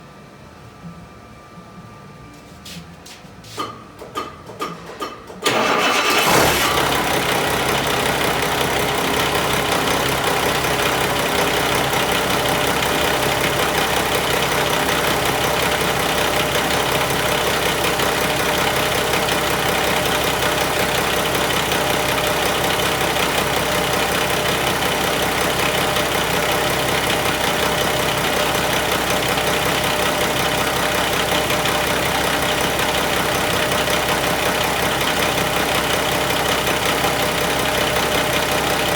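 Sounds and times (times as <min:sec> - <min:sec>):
diesel engine starting and idling: 0:04.0 - 0:38.9.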